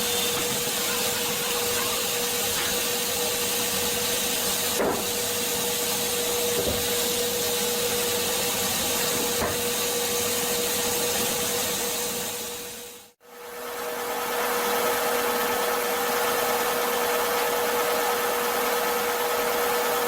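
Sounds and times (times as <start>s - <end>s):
woodworking machine whine: 0.0s - 20.0s.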